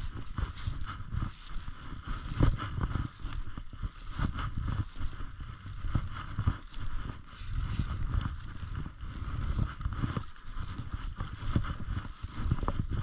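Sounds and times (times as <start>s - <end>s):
snowshoe footsteps crunching snow: 0.0s - 13.0s.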